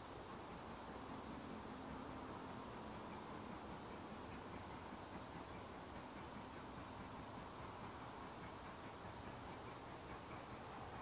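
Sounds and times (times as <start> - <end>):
faint outdoor background hiss: 0.0 - 11.0.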